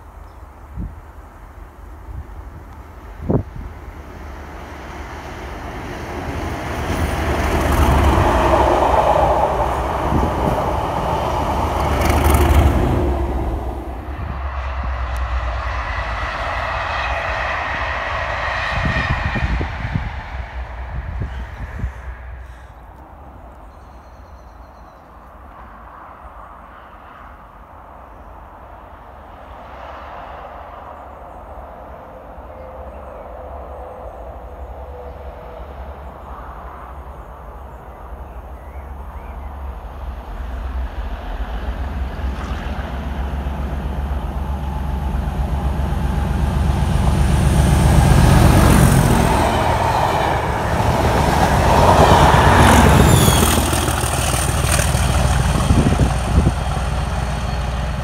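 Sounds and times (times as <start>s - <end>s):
train wheels rumbling on rails: 0.0s - 23.8s, 28.4s - 58.0s
diesel locomotive engine: 0.0s - 58.0s.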